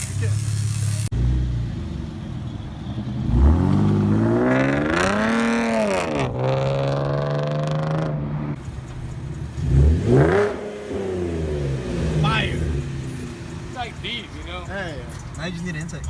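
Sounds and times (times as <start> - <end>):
car engine revving: 3.0 - 16.0.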